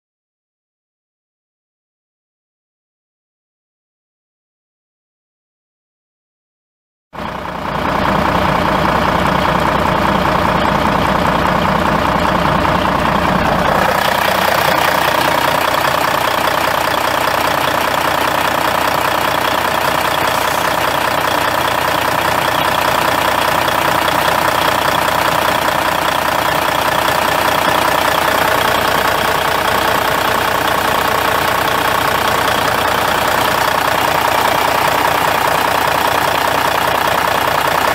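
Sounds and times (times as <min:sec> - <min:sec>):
diesel truck engine idling: 0:07.2 - 0:37.9.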